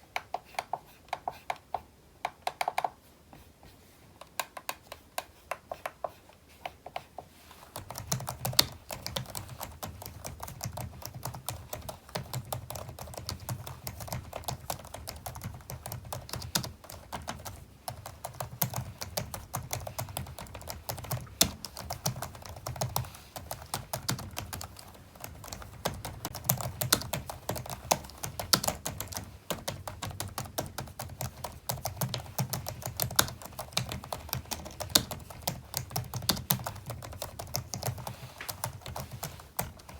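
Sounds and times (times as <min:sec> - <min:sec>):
keyboard typing: 0:00.1 - 0:03.0, 0:07.7 - 0:39.9.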